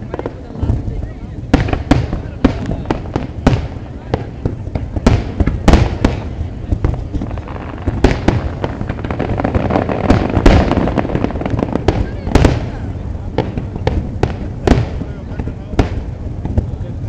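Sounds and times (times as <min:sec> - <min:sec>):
dense crackling: 0:00.0 - 0:17.0
fireworks exploding: 0:00.0 - 0:17.0.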